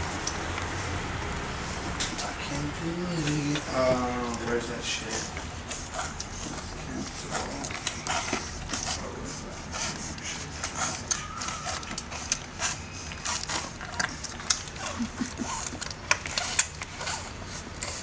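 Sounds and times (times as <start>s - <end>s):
puppies nursing wet sucking: 0.0s - 18.0s.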